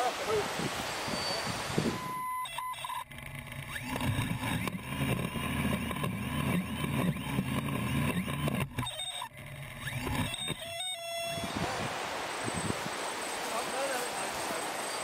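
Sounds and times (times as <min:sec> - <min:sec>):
drone motors and propellers: 0:00.6 - 0:15.0.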